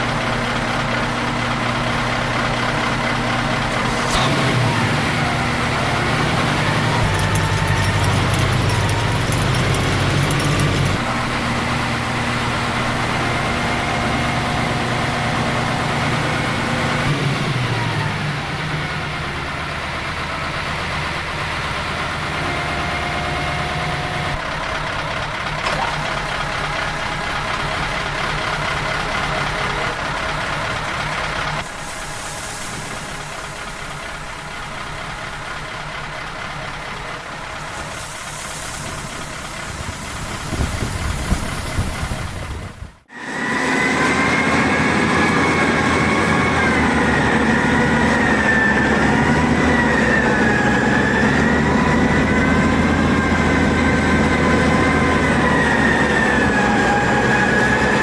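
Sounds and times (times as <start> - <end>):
snow-clearing machine engines: 0.0 - 58.0.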